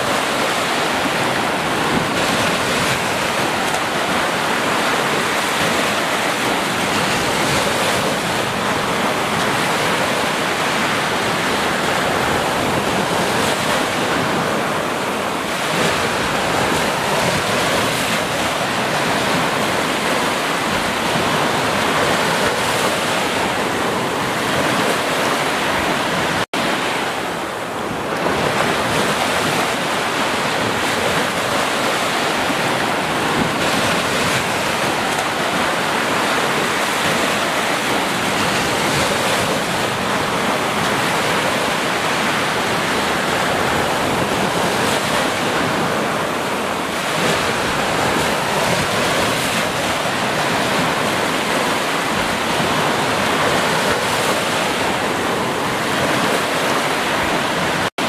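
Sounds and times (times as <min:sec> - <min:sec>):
waves washing up sand: 0:00.0 - 0:58.0.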